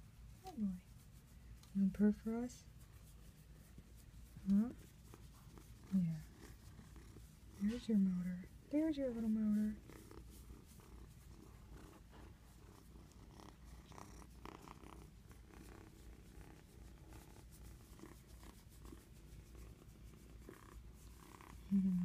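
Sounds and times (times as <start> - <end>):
kitten purring: 0.4 - 22.0.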